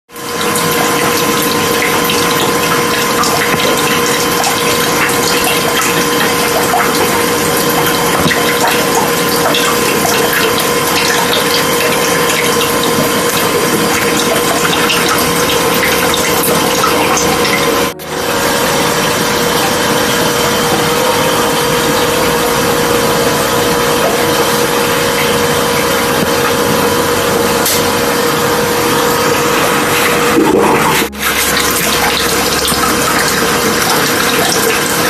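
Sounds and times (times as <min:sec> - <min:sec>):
pump hum: 0:00.2 - 0:35.0
water bubbling and rushing: 0:00.2 - 0:35.0.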